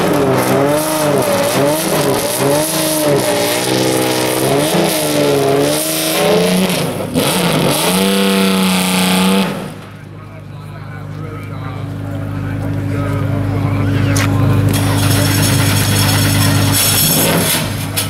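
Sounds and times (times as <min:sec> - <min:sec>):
racing engine revving: 0:00.0 - 0:18.0.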